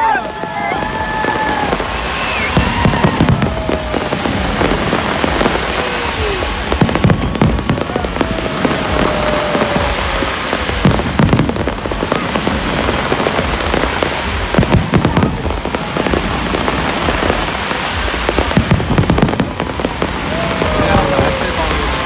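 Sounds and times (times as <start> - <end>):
fireworks crackling and popping: 0.0 - 22.0
heavy firework bangs: 0.0 - 22.0.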